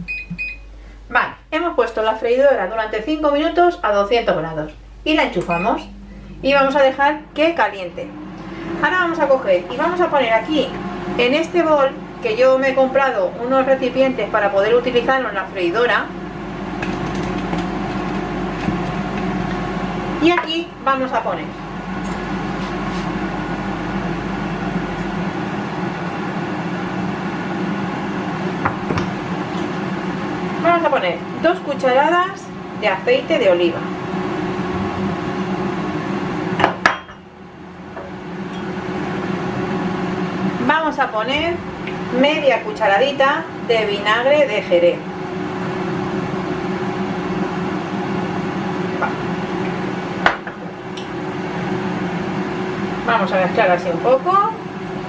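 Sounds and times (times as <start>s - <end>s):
air fryer fan whirring: 0.0s - 55.0s.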